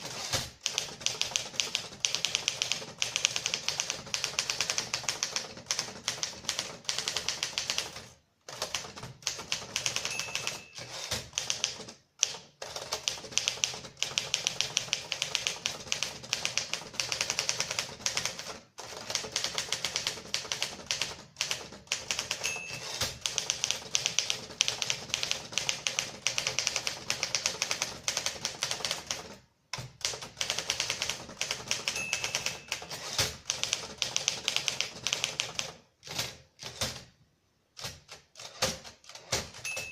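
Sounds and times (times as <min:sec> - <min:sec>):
manual typewriter typing: 0:00.0 - 0:37.1, 0:37.7 - 0:39.9.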